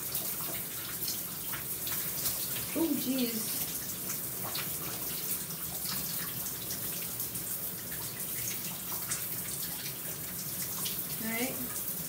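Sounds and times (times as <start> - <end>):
shower water spraying: 0.0 - 12.0
small water splashes: 0.0 - 12.0.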